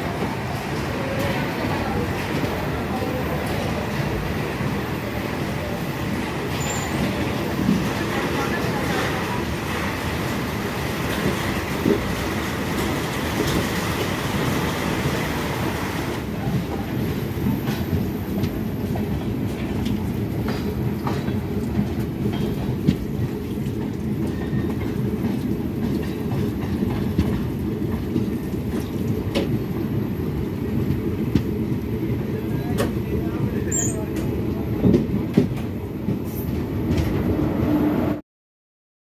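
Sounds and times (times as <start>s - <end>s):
train rumbling on rails: 0.0s - 38.2s.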